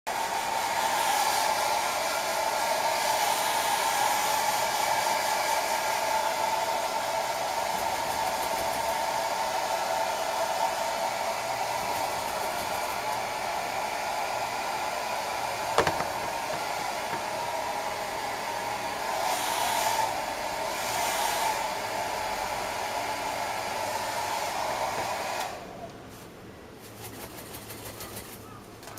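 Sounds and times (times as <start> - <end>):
hair dryer blowing: 0.1 - 26.0.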